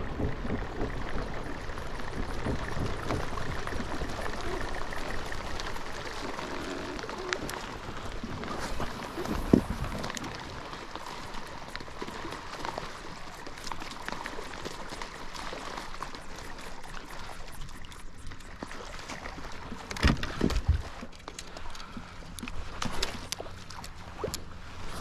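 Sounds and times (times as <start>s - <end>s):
waves lapping against kayak: 0.0s - 25.0s.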